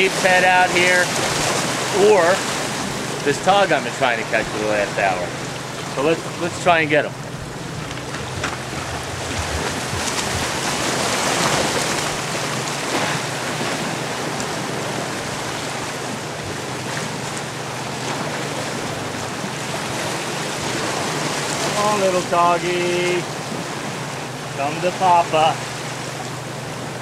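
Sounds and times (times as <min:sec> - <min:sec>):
surf washing against rocks: 0:00.0 - 0:27.0.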